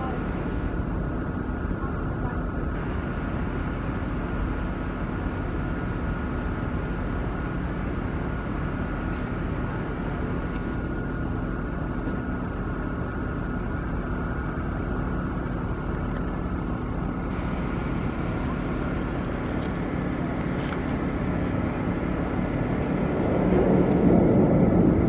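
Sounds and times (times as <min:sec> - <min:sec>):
constant hum: 0:00.0 - 0:25.0
low mechanical drone: 0:00.0 - 0:25.0.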